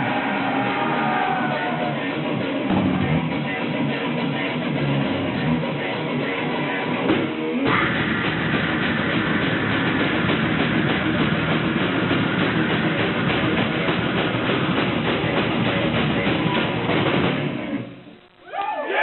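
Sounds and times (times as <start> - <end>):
heavy metal band playing live: 0.0 - 17.8.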